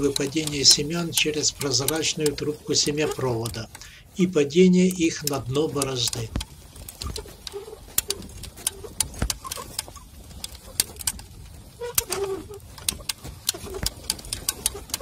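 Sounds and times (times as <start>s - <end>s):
seeder mechanism clicking: 0.0s - 15.0s.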